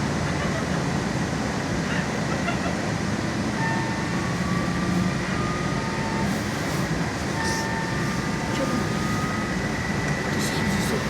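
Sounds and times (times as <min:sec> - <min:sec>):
trolleybus cabin rumble: 0:00.0 - 0:11.0.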